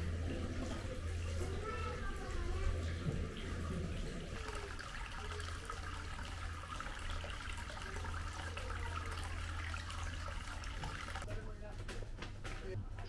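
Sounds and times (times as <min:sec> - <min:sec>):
water pouring into a bath: 0:00.0 - 0:11.3.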